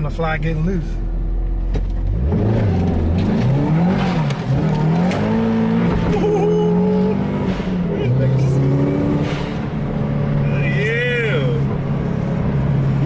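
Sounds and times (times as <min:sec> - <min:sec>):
car engine revving hard: 0:02.0 - 0:13.0.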